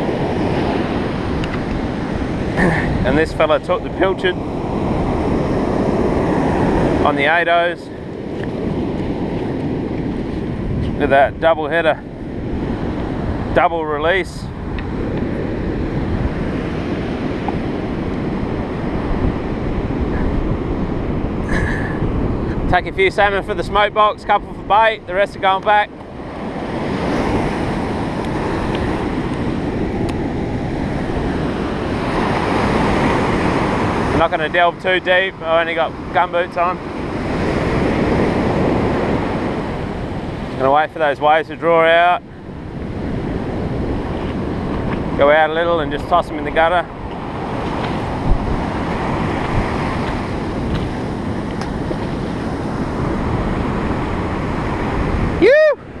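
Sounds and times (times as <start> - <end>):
ocean surf washing: 0.0 - 56.0
waves breaking on beach: 0.0 - 56.0
wind on microphone: 0.0 - 56.0.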